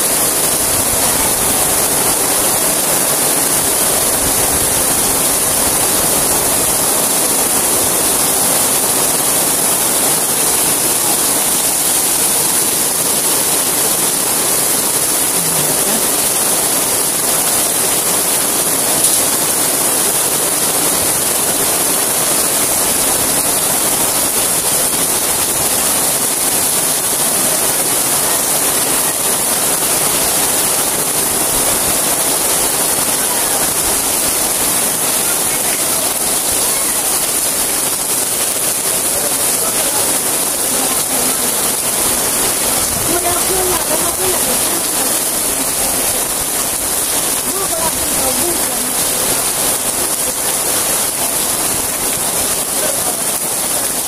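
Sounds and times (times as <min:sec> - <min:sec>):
heavy rain on street and awnings: 0:00.0 - 0:54.0.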